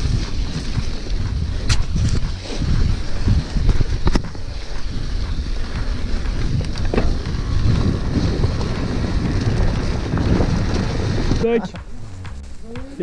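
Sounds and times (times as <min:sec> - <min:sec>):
mountain bike rolling on dirt: 0:00.0 - 0:13.0
wind buffeting microphone: 0:00.0 - 0:13.0.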